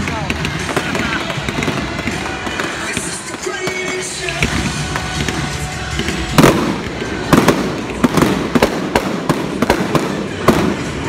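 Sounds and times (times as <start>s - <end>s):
fireworks bangs: 0.0s - 11.0s
low rumble of fireworks: 0.0s - 11.0s.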